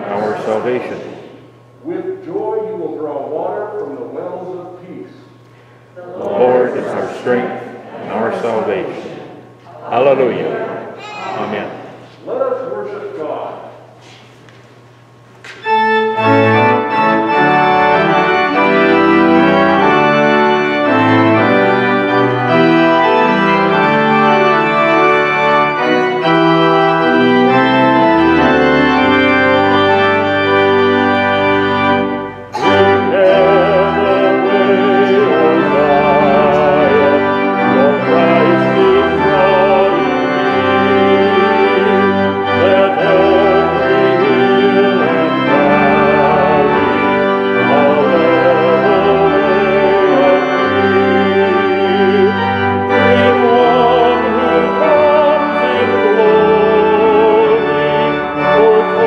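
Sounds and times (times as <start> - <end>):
church organ playing hymn chords: 0.0 - 59.0.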